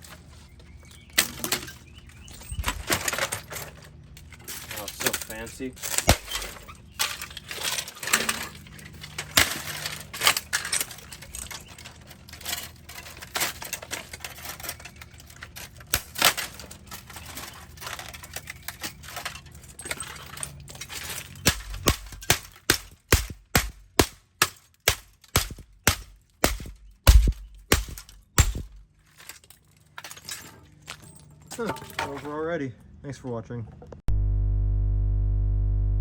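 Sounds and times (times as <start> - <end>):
plastic and metal breaking: 0.8 - 32.4.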